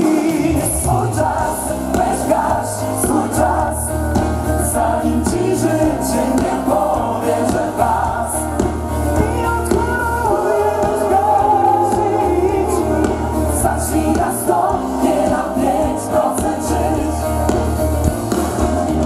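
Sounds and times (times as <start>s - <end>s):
band playing pop music: 0.0s - 19.0s
vocal group singing: 0.0s - 19.0s.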